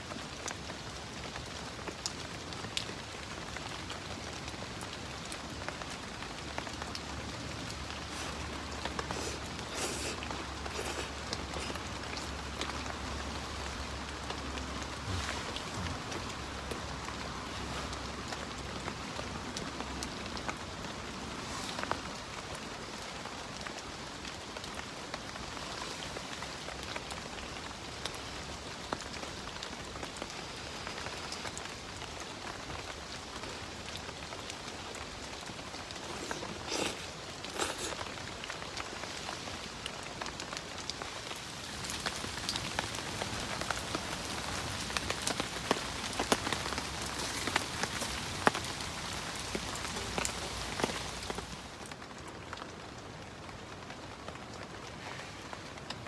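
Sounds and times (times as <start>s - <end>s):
rain on a tent: 0.0s - 56.0s.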